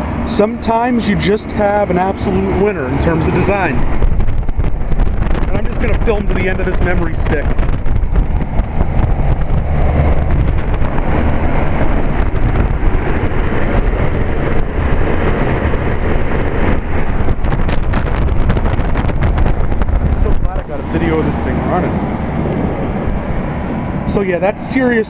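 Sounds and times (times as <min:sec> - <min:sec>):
compressor low hum: 0:00.0 - 0:25.0
condenser fan air rushing: 0:00.0 - 0:25.0
wind buffeting microphone: 0:00.0 - 0:25.0.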